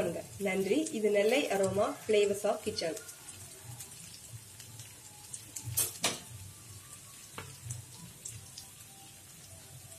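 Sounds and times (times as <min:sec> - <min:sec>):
food sizzling in frying pan: 0:00.0 - 0:09.9.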